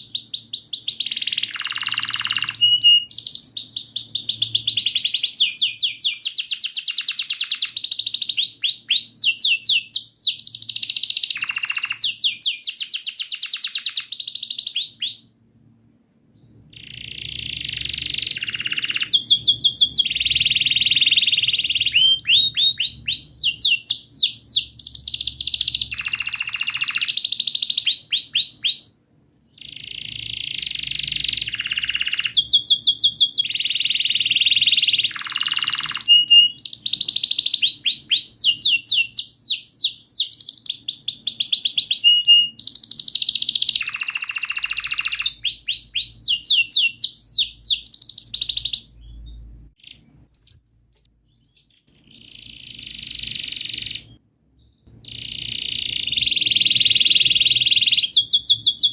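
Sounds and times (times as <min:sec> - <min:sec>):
canary singing trills: 0:00.0 - 0:15.4, 0:16.3 - 0:58.9.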